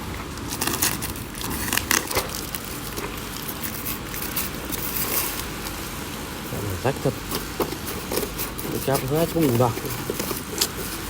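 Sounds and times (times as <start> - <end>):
plastic packaging crinkling: 0.0 - 5.9, 6.9 - 11.0.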